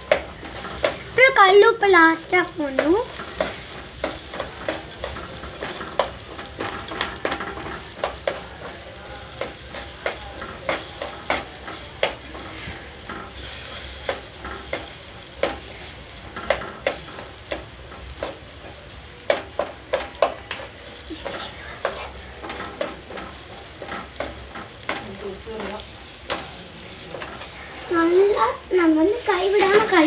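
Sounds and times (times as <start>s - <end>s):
food sizzling in a pan: 0.0s - 30.0s
spatula scraping a pan: 0.3s - 30.0s.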